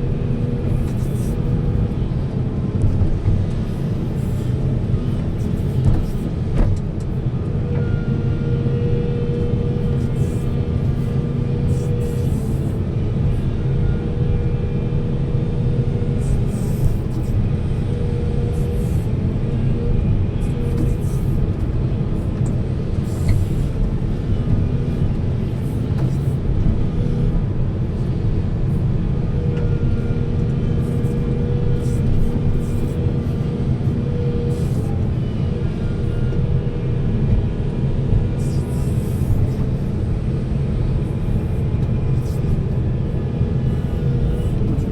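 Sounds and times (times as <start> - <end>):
heavy diesel machinery running: 0.0 - 44.9
high machine whine: 0.0 - 44.9.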